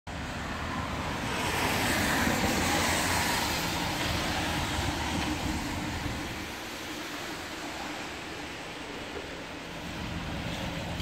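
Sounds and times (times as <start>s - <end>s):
rain: 0.1s - 11.0s
tyres hissing on wet asphalt: 0.2s - 11.0s.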